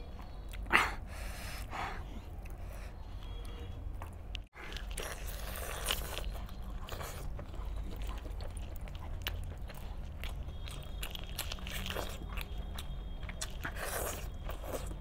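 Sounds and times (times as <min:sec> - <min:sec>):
close-up chewing: 0:01.6 - 0:15.0.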